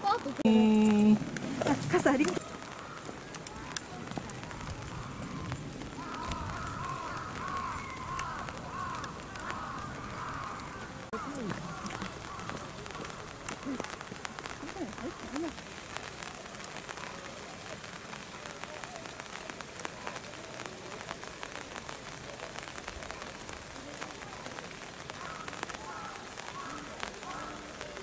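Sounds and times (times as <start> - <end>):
rain falling on leaves: 0.0 - 28.0
raindrops ticking: 0.0 - 28.0.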